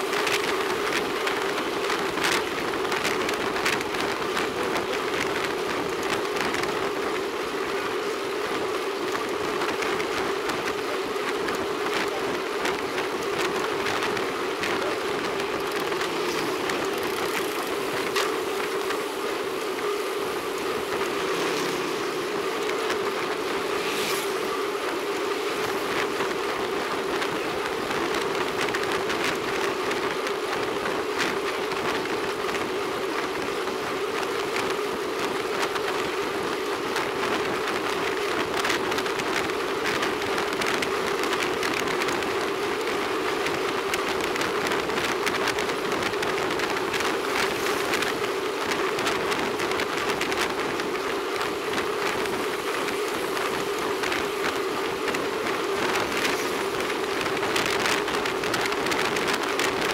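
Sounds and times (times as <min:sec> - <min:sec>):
bicycle tyre noise on asphalt: 0:00.0 - 0:59.9
constant hum: 0:00.0 - 0:59.9
wind rush: 0:00.0 - 0:59.9.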